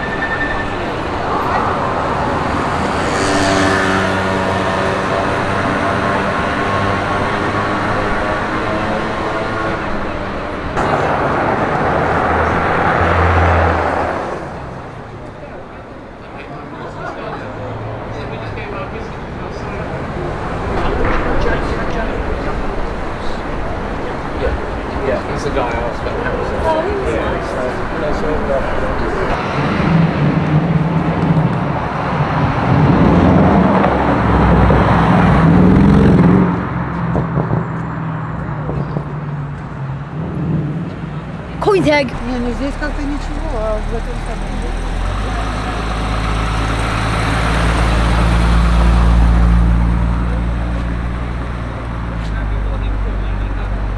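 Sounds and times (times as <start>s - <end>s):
vehicle passing close by: 0.0s - 15.7s, 16.8s - 39.1s, 39.7s - 53.9s
engine hum: 0.0s - 53.9s.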